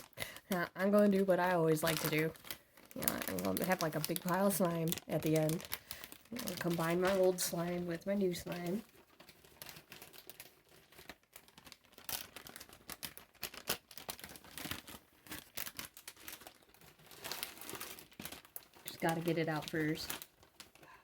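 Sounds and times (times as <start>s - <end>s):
slime crackling and popping: 0.0s - 20.9s.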